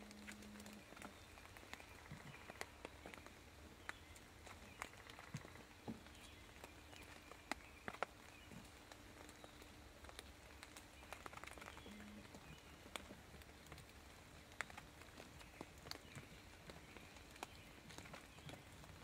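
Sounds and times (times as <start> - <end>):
ticks and taps on dry leaves: 0.0 - 19.0.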